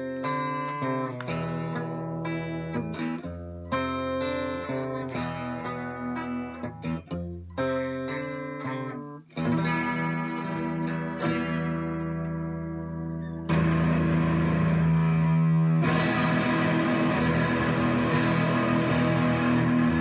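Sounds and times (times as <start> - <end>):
twelve-string electric guitar picking: 0.0 - 20.0.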